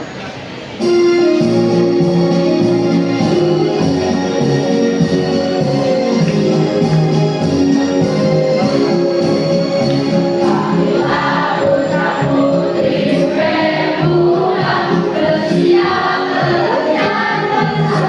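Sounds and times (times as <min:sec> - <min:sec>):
instrumental accompaniment: 0:00.7 - 0:18.0
choir singing: 0:01.2 - 0:18.0.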